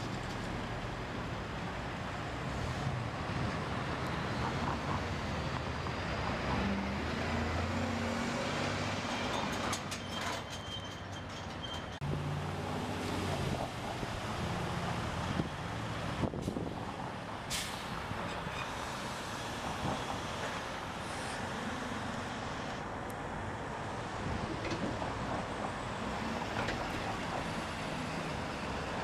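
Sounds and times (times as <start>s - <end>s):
diesel truck engines: 0.0s - 29.0s
tyre and road noise: 0.0s - 29.0s.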